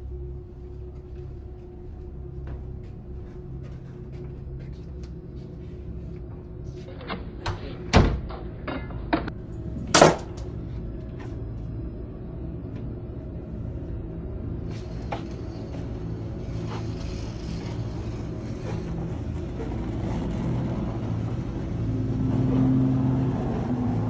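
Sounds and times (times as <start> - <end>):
horror music drone: 0.0 - 24.0.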